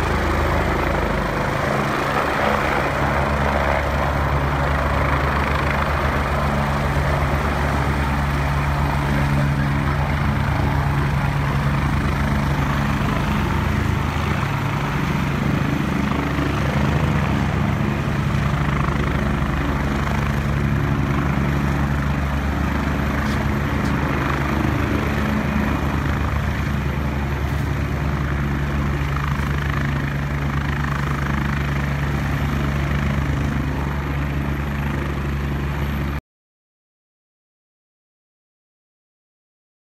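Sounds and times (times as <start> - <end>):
helicopter rotor beat: 0.0 - 36.2.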